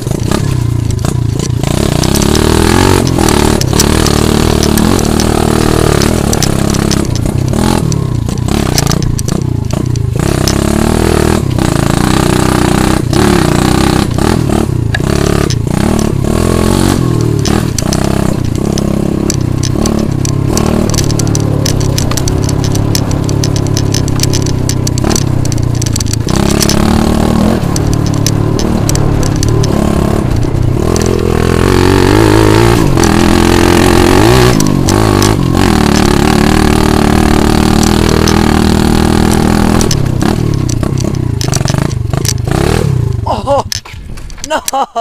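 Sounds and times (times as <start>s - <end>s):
pit bike engine revving: 0.0s - 44.6s.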